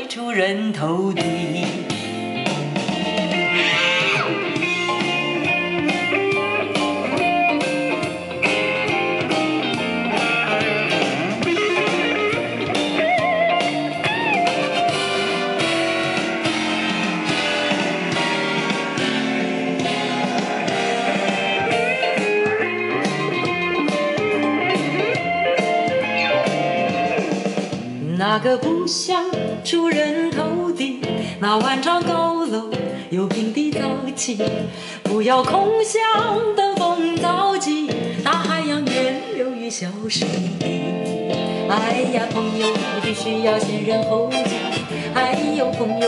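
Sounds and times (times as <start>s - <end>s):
pop music over loudspeakers: 0.0s - 46.0s.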